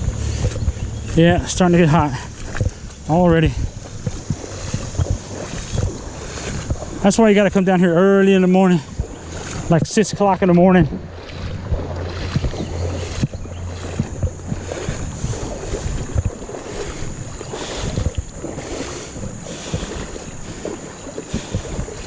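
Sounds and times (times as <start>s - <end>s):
creek water running: 0.0s - 22.0s
splashes and knocks: 0.0s - 22.0s.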